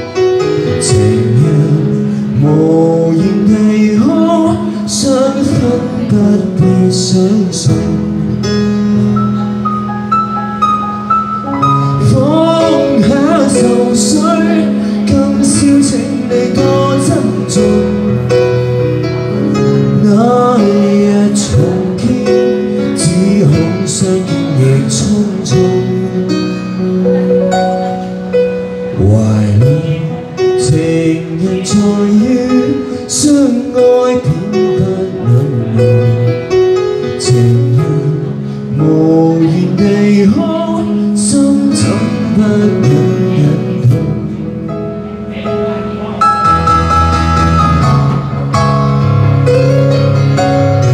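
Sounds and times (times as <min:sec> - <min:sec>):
man singing into microphone: 0:00.0 - 0:08.8, 0:11.5 - 0:18.7, 0:19.3 - 0:27.3, 0:28.8 - 0:46.3
keyboard chords: 0:00.0 - 0:50.9.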